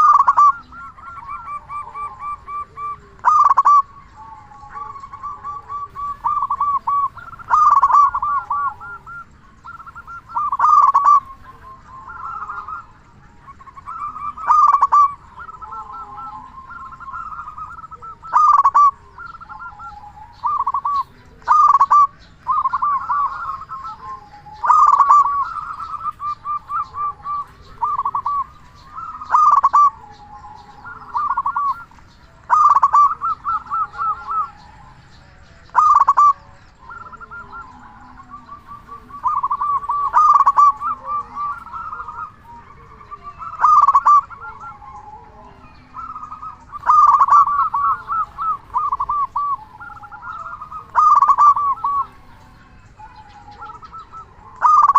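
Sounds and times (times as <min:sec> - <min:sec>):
zebra dove cooing: 0:00.0 - 0:54.9.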